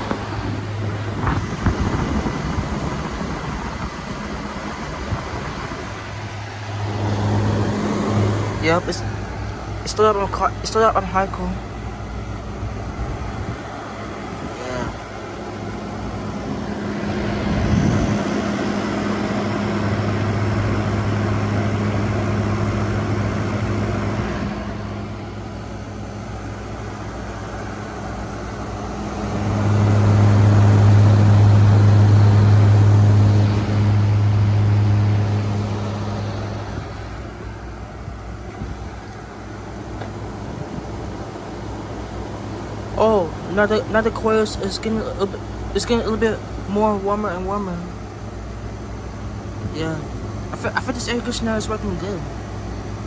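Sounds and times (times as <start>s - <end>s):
air conditioner fan rushing: 0.0s - 53.0s
compressor hum: 0.0s - 53.0s.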